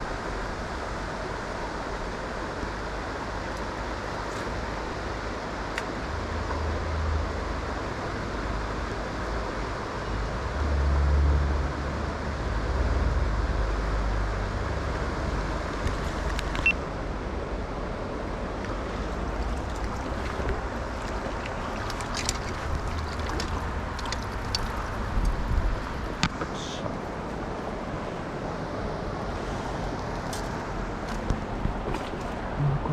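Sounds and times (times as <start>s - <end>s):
mountain stream rushing: 0.0s - 32.9s
wind rumbling on microphone: 0.0s - 32.9s.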